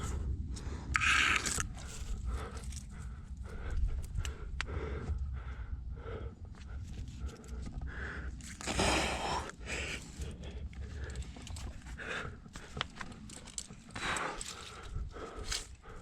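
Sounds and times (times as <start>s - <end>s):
person breathing hard: 0.0s - 16.0s
wind rumble on microphone: 0.0s - 16.0s.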